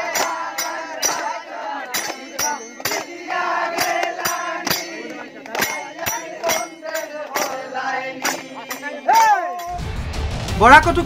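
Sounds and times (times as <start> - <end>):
men singing and chanting: 0.0 - 11.0
sharp beats keeping time: 0.0 - 11.0.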